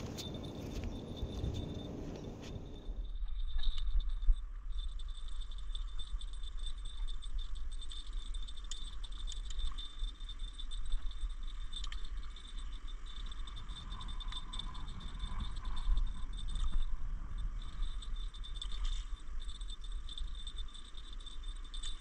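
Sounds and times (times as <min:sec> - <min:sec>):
faint high-pitched whine: 0:00.0 - 0:22.0
wind rumbling on microphone: 0:00.0 - 0:22.0.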